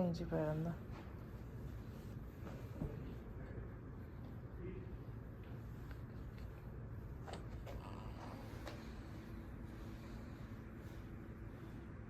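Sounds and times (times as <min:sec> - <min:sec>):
faint rustles and clicks: 0:00.0 - 0:12.0
low room rumble: 0:00.0 - 0:12.0.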